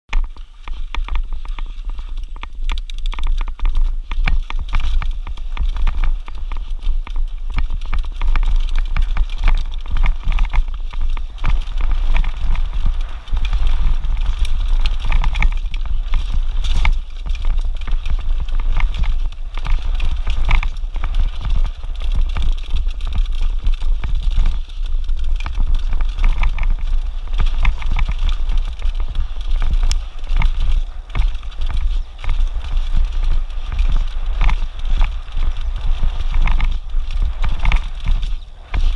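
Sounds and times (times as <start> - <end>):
bike clattering and rattling: 0.1 - 38.9
constant low rumble: 0.1 - 38.9
tyres crunching over gravel: 0.1 - 38.9.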